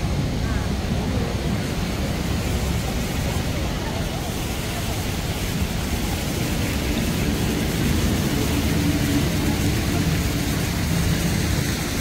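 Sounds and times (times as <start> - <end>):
city traffic rumble: 0.0 - 12.0
vehicle engine hum: 0.0 - 12.0.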